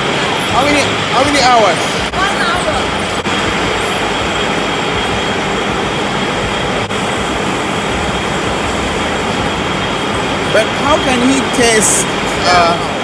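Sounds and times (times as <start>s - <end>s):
factory machinery din: 0.0s - 13.0s.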